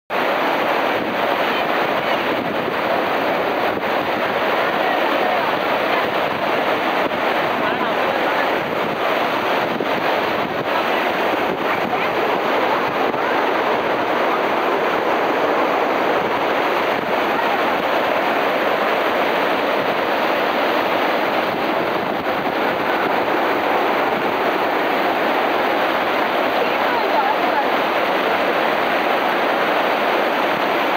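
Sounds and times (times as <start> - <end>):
river rushing over boulders: 0.1 - 30.9.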